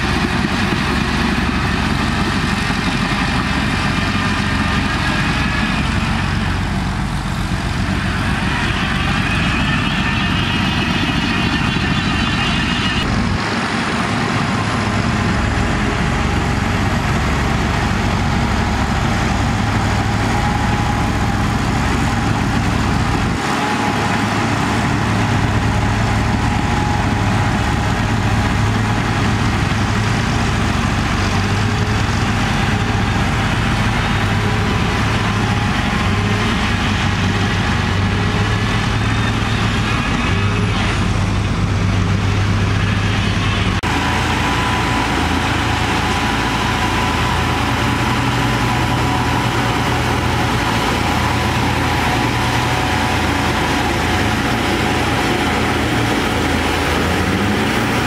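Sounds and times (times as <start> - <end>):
bulldozer diesel engine humming: 0.0 - 58.0.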